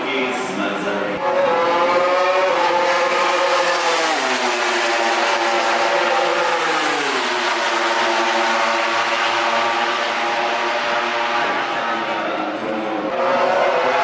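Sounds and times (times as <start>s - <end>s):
racing motorcycle engine revving: 1.2s - 14.0s.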